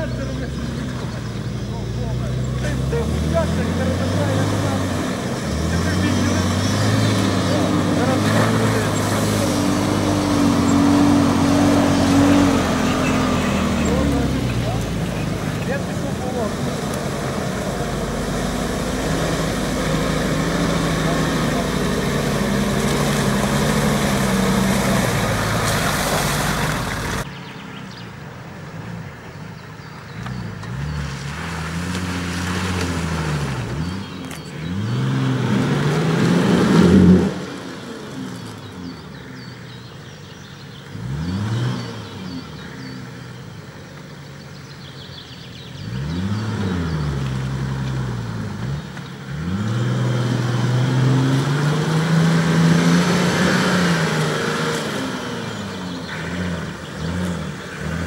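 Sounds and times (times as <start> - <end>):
engine revving in mud: 0.0 - 28.0, 28.8 - 58.0.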